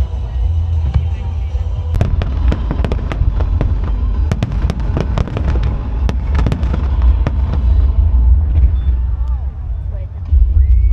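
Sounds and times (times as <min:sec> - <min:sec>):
deep rumble: 0:00.0 - 0:10.9
fireworks crackling and banging: 0:00.0 - 0:10.9.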